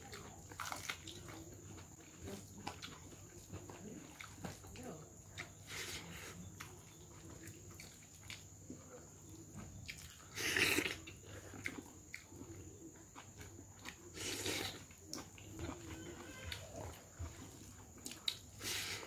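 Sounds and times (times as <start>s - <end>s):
person chewing: 0.0s - 4.6s, 5.3s - 19.0s.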